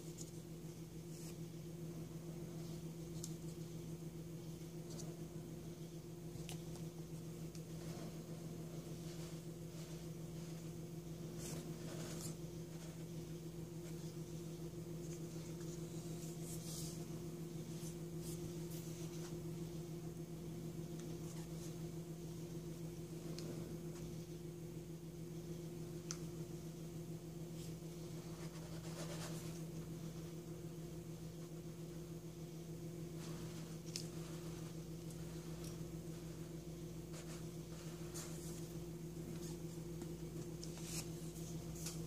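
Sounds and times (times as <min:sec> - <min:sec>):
low electrical hum: 0:00.0 - 0:42.0
rustles of handling modelling dough: 0:00.0 - 0:42.0.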